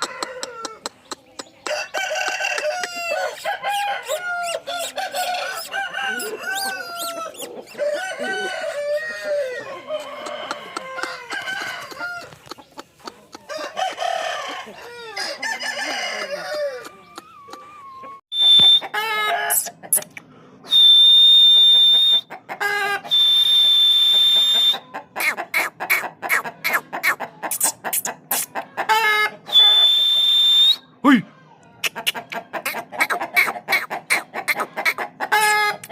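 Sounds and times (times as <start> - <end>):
chickens clucking and crowing: 0.0 - 20.8, 21.8 - 23.4, 24.0 - 29.8, 30.8 - 35.9.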